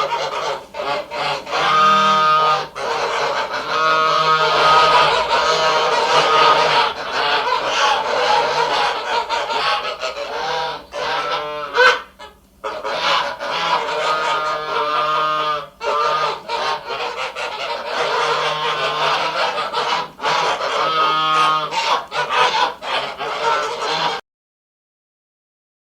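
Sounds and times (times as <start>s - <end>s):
ducks quacking: 0.0s - 24.2s.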